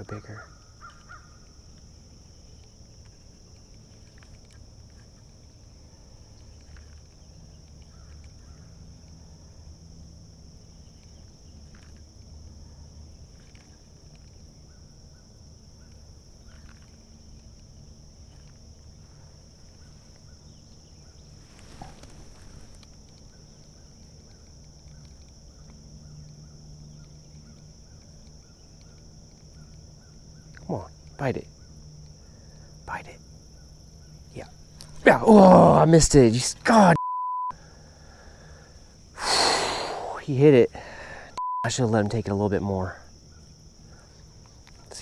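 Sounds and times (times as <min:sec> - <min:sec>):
insects droning: 0:00.0 - 0:45.0.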